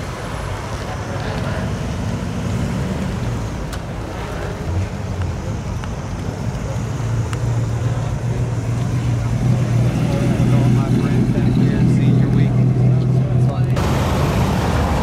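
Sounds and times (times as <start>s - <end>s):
car engine low exhaust note: 0.7s - 13.9s.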